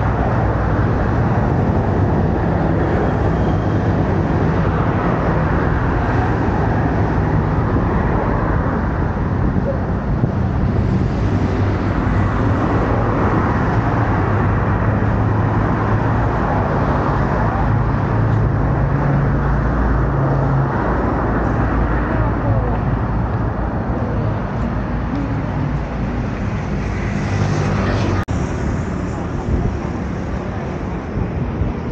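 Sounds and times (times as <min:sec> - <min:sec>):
low engine hum: 0:00.0 - 0:31.9
motorcycles and cars passing: 0:00.0 - 0:31.9.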